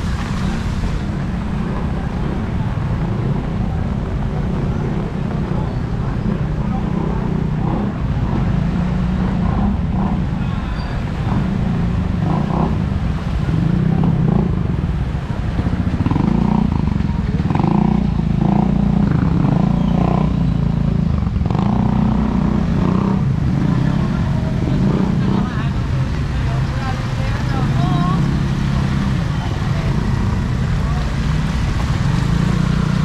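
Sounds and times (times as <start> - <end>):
faint voices: 0.0 - 33.0
vehicle engine droning: 0.0 - 33.0.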